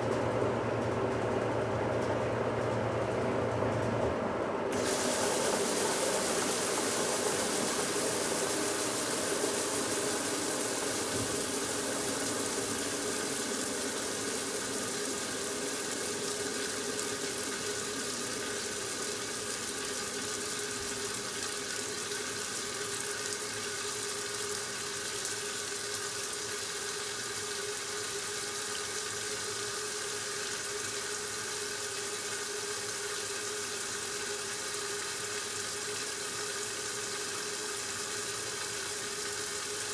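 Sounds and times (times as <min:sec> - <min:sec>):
water hissing into washing machine: 0:04.7 - 0:39.9.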